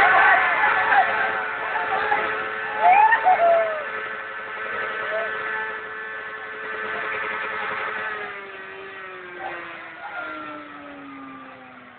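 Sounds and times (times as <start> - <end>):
motorcycle engine at high revs: 0.0 - 11.9.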